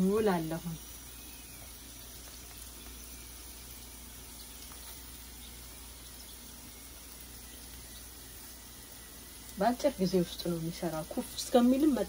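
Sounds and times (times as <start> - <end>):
pastries sizzling in a pan: 0.0 - 12.0.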